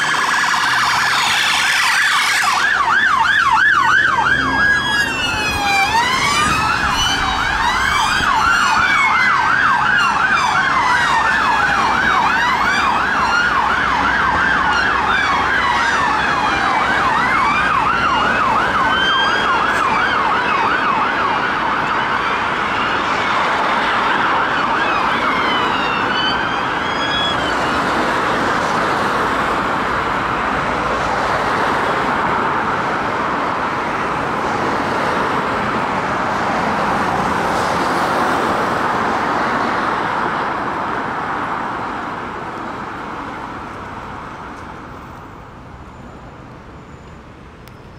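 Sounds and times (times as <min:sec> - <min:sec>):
police sirens wailing: 0:00.0 - 0:46.8
city traffic noise: 0:00.0 - 0:47.9.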